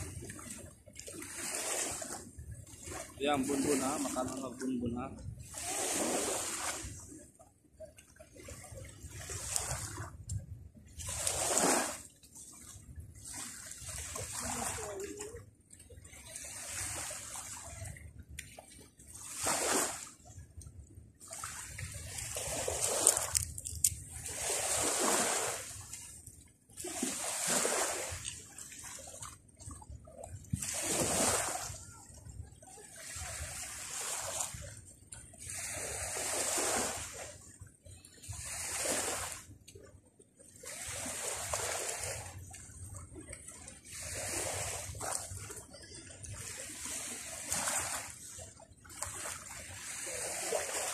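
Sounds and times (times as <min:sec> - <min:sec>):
sea waves washing ashore: 0:00.0 - 0:20.6, 0:21.2 - 0:37.5, 0:38.2 - 0:39.8, 0:40.5 - 0:50.9.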